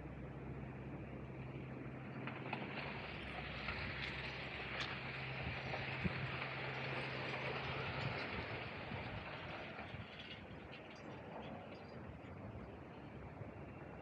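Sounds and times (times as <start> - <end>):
low even hum: 0.0 - 14.0.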